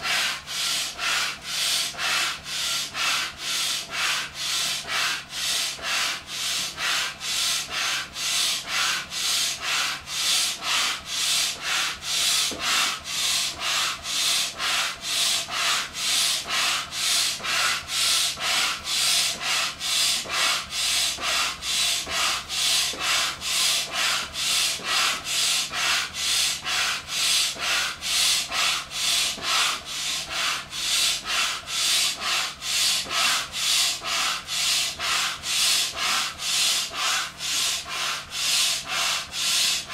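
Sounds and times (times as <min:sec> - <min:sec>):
hand air pump hissing: 0:00.0 - 0:39.9.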